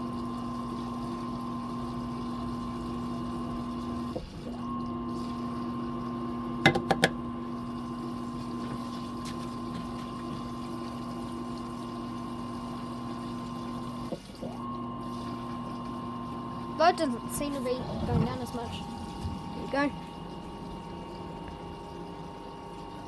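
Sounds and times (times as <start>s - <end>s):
drain pump humming: 0.0s - 23.0s.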